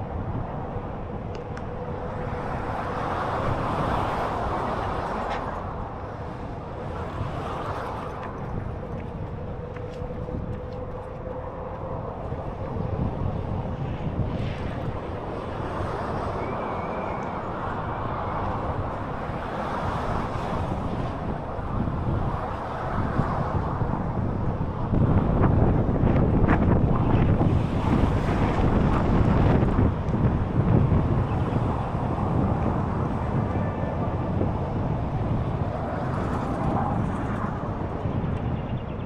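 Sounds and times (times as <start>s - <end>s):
city traffic: 0.0s - 39.0s
wind rushing over microphone: 0.0s - 39.0s.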